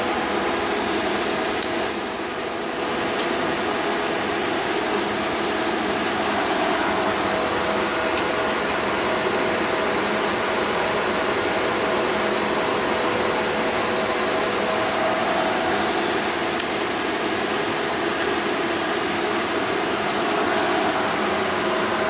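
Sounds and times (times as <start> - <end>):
lathe motor whirring: 0.0 - 22.0.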